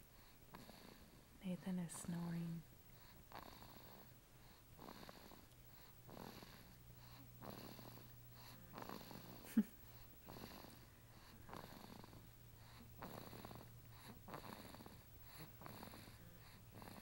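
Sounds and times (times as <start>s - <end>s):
person snoring quietly: 0.2s - 17.0s.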